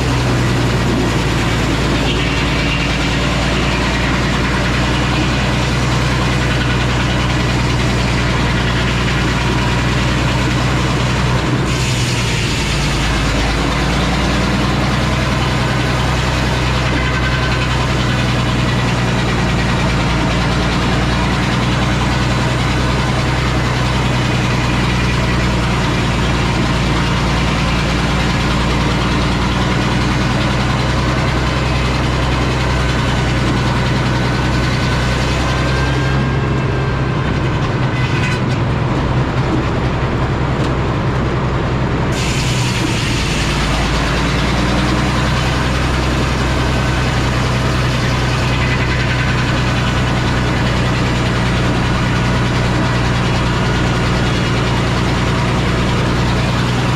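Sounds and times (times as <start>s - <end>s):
sawmill engine running loud: 0.0s - 56.9s.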